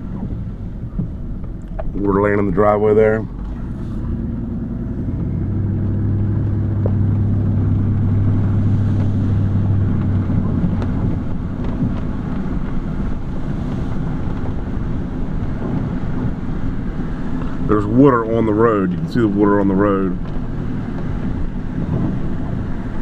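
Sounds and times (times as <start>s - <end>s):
car engine hum: 0.0s - 23.0s
tyre noise on wet road: 0.0s - 23.0s.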